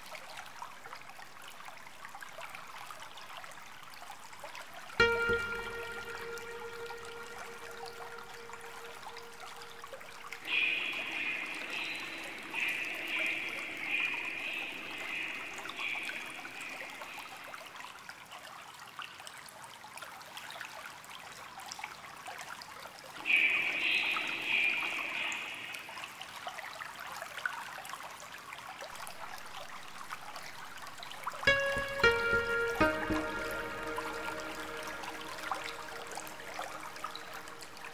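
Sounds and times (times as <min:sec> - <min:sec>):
faint background noise: 0:00.0 - 0:37.9
water trickling and splashing: 0:00.0 - 0:37.9.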